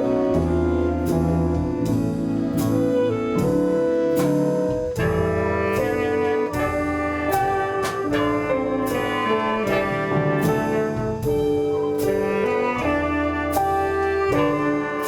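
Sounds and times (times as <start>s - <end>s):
saxophone and brass melody: 0.0s - 15.0s.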